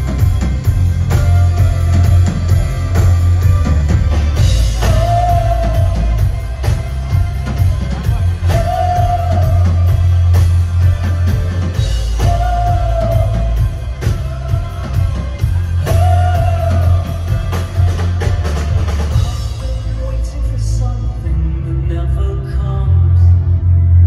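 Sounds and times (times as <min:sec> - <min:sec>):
steady drum beat: 0:00.0 - 0:20.8
heavy synth bass: 0:00.0 - 0:24.0
man singing long notes: 0:04.4 - 0:24.0.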